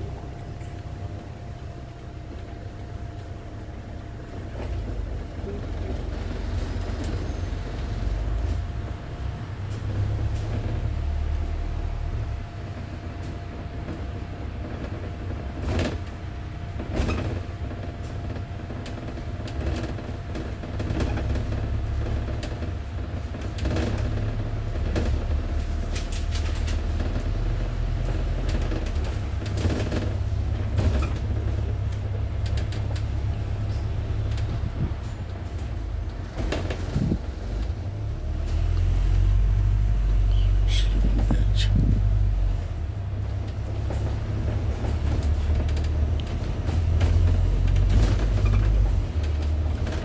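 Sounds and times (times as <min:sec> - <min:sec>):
bus body rattling and creaking: 0:00.0 - 0:50.0
bus engine droning: 0:00.0 - 0:50.0.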